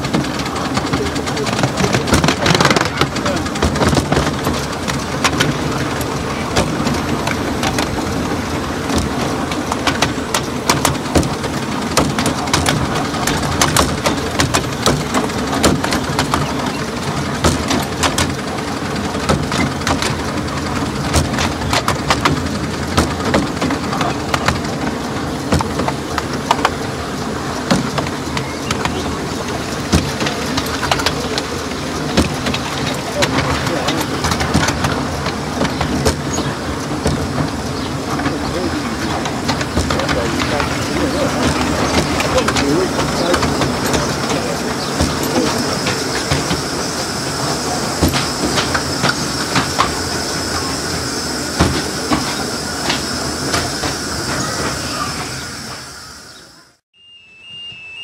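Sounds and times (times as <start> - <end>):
miniature train rumbling: 0.0 - 58.0
wheels clicking on rails: 0.0 - 58.0.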